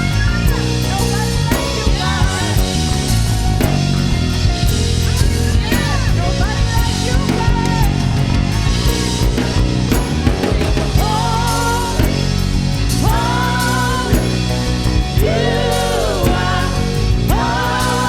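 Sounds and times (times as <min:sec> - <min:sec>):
drum kit: 0:00.0 - 0:18.0
worship band music: 0:00.0 - 0:18.0.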